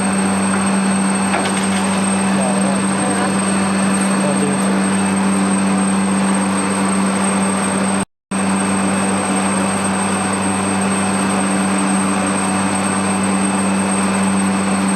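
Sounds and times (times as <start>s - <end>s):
machine drone with low hum: 0.0s - 14.9s.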